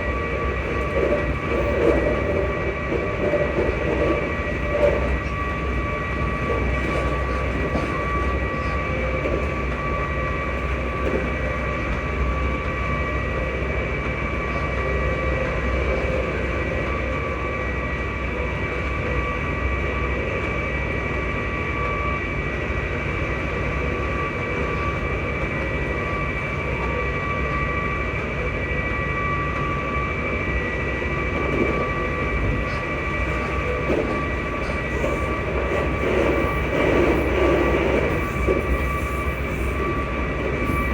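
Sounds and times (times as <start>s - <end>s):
traction motor whine: 0.0s - 40.9s
train rumble: 0.0s - 40.9s.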